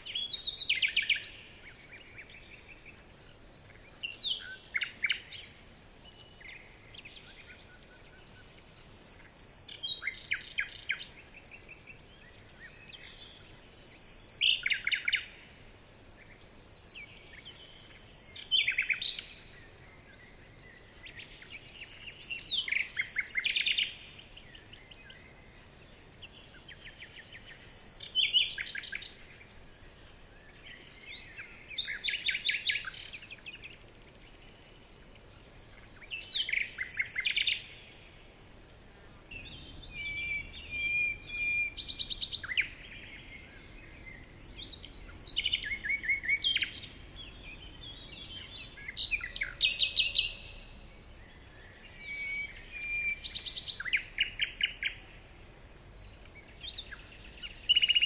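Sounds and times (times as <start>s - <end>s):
songbird trilling: 0.0s - 50.6s, 51.4s - 55.2s, 56.3s - 58.0s.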